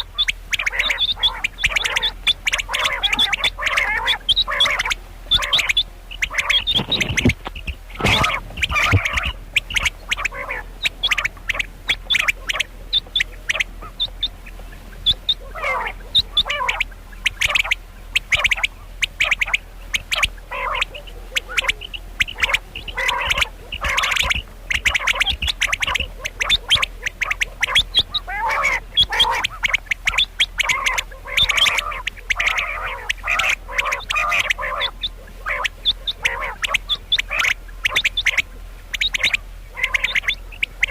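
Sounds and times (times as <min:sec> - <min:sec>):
quail calling: 0:00.0 - 0:40.9.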